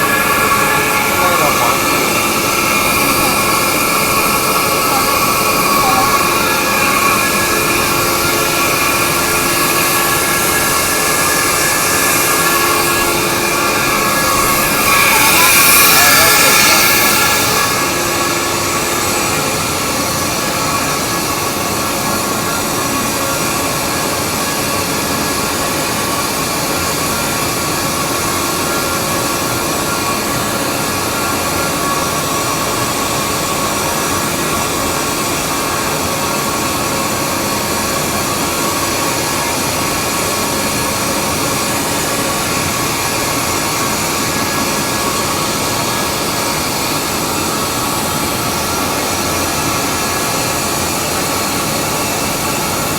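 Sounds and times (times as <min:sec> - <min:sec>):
air compressor running: 0:00.0 - 0:52.9
constant whining tones: 0:00.0 - 0:52.9.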